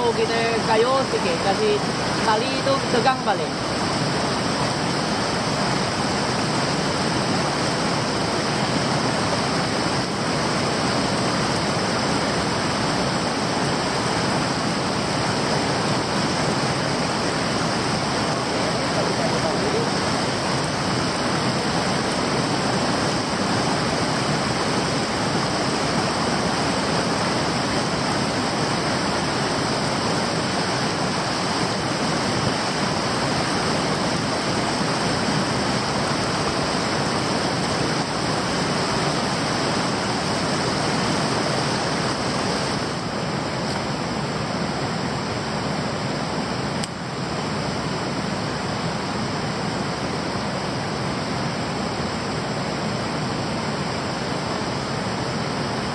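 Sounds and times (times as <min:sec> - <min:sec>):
stream water rushing over rocks: 0:00.0 - 0:55.9.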